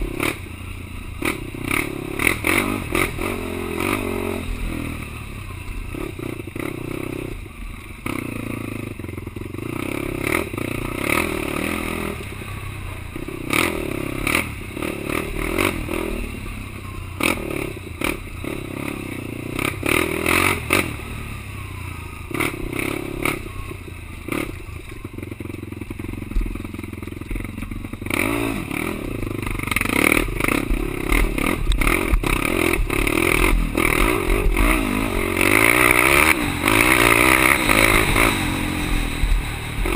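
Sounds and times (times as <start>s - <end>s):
quad engine revving: 0.0s - 7.4s, 8.0s - 39.9s.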